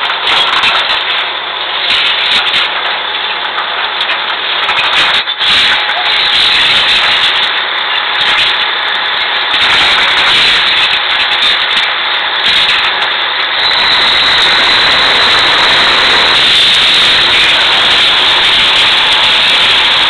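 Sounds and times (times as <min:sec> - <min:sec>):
drilling rig machinery running: 0:00.0 - 0:20.0.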